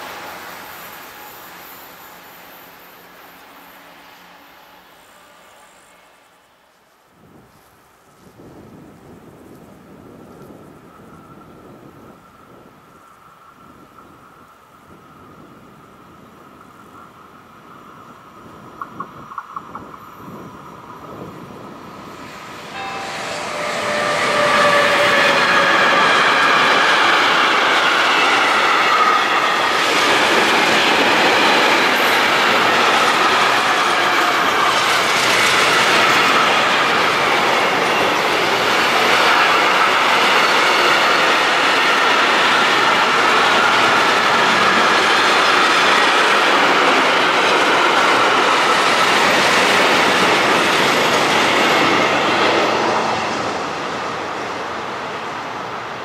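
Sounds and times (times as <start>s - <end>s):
electric locomotive whine: 0.0s - 56.0s
freight train wheels on rails: 0.0s - 56.0s.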